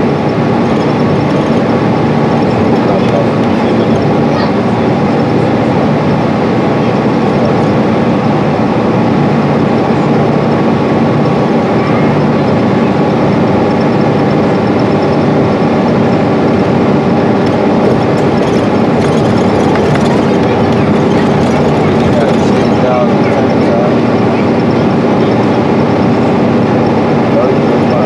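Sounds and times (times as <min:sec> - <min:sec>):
bus diesel engine running: 0:00.0 - 0:28.0
road noise: 0:00.0 - 0:28.0.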